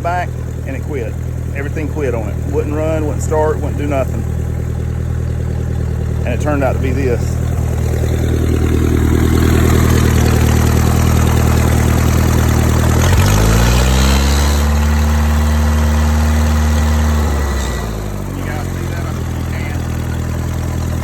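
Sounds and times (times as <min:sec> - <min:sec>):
boat engine idling and revving: 0:00.0 - 0:21.0.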